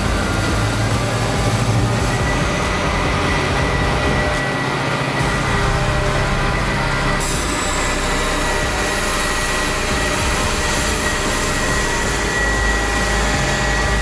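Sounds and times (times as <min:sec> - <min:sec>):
heavy machinery drone and whine: 0:00.0 - 0:14.0.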